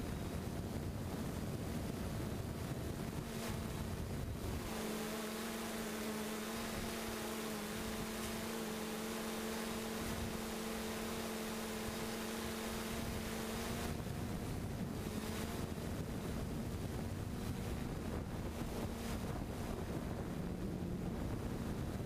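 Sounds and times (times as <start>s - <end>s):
drone propellers humming: 0.0s - 22.0s
wind rumbling on microphone: 0.0s - 22.0s.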